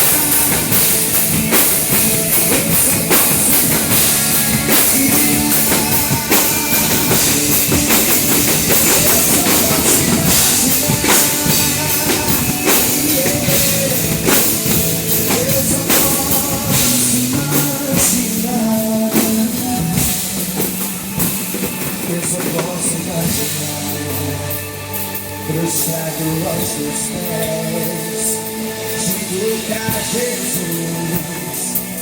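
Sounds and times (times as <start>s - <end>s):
drum kit hits: 0.0s - 32.0s
live rock band playing: 0.0s - 32.0s.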